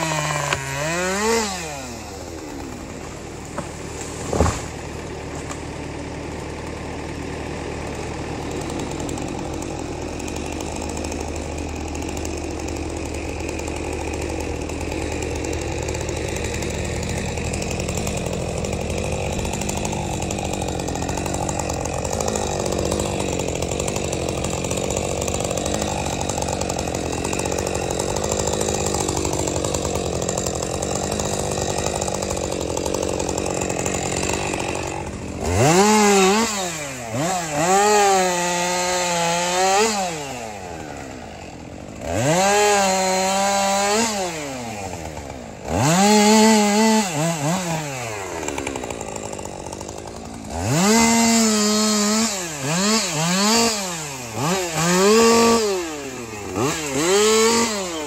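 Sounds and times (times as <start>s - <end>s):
chainsaw revving: 0.0s - 58.0s.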